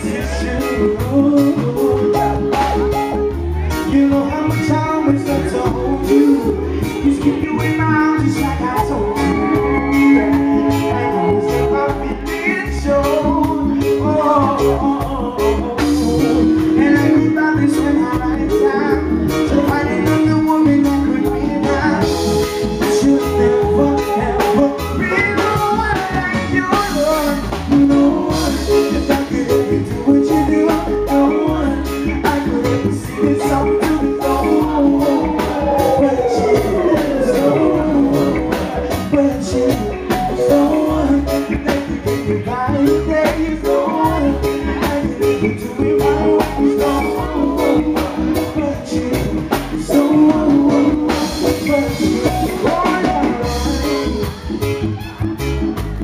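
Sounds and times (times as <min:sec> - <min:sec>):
man singing into a microphone: 0:00.0 - 0:55.2
drum kit: 0:00.0 - 0:56.0
electric guitar: 0:00.0 - 0:56.0
keyboard: 0:00.0 - 0:56.0.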